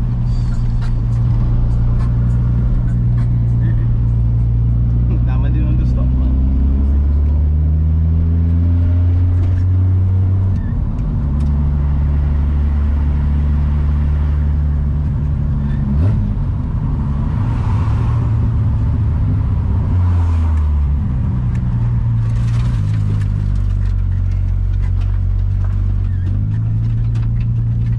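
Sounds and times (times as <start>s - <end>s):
car engine running: 0.0s - 27.9s.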